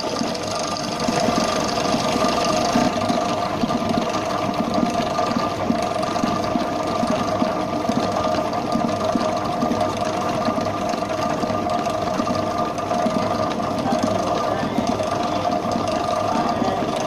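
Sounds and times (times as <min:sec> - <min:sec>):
electric mixer whipping icing: 0:00.0 - 0:17.0.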